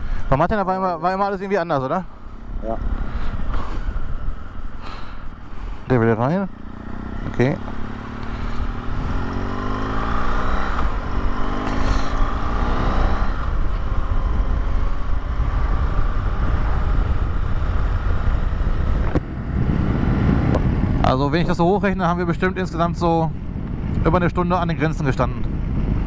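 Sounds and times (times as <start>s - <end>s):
motorcycle engine accelerating: 0.5s - 26.0s
wind noise: 2.1s - 26.0s.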